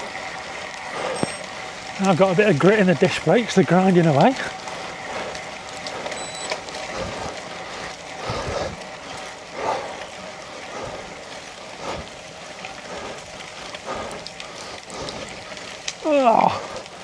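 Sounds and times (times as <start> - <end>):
bicycle tyres on wet gravel: 0.0 - 17.0
heavy rain: 0.0 - 17.0.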